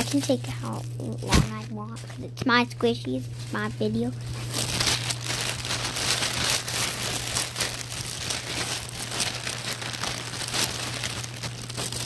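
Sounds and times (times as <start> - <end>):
plastic packaging crinkling: 0.0 - 2.3, 3.2 - 12.0
steady low hum: 0.0 - 12.0.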